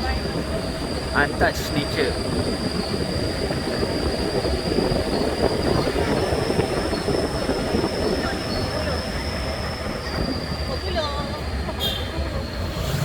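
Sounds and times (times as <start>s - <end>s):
truck rattling rumble: 0.0s - 13.0s.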